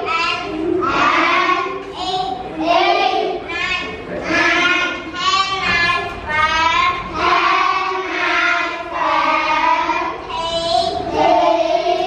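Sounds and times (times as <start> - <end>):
children chanting in unison: 0.0 - 12.0.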